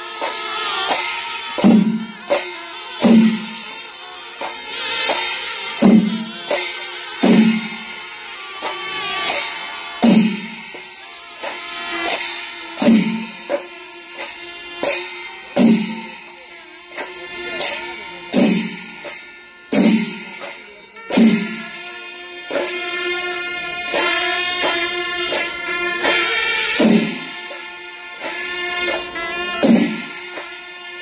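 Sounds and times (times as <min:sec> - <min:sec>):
cymbals: 0:00.0 - 0:31.0
drums beaten with sticks: 0:00.0 - 0:31.0.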